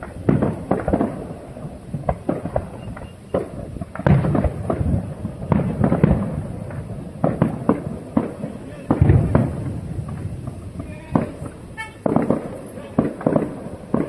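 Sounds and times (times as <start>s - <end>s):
firework shell bursts: 0.0s - 14.0s.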